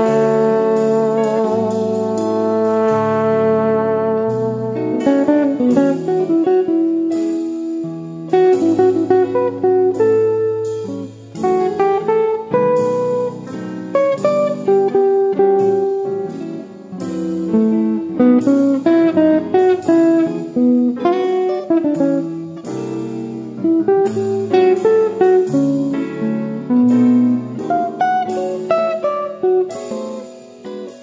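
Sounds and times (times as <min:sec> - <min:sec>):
plucked guitar melody: 0:00.0 - 0:31.0.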